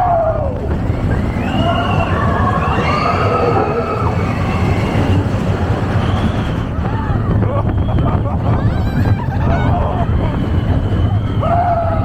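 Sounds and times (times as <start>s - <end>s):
riders screaming and whooping: 0.0s - 12.0s
roller coaster train rumbling: 0.0s - 12.0s
wind rushing: 0.0s - 12.0s.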